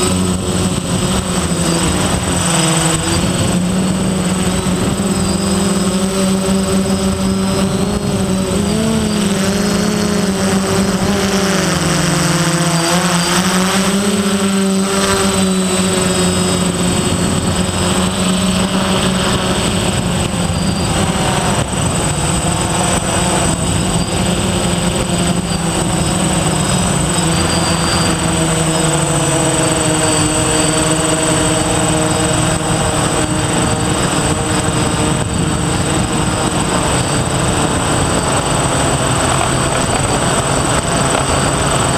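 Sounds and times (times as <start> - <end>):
high thin whine: 0.0 - 41.9
quadcopter motors buzzing: 0.0 - 41.9.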